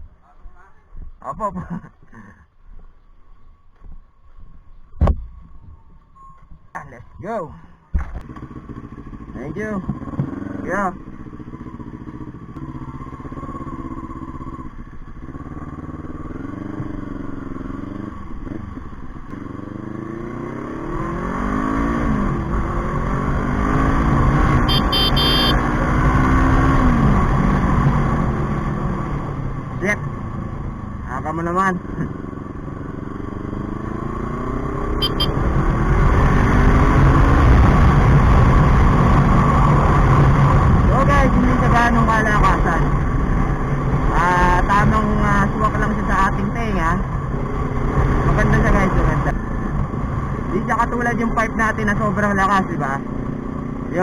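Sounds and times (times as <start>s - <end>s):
motorcycle engine revving: 8.2s - 54.0s.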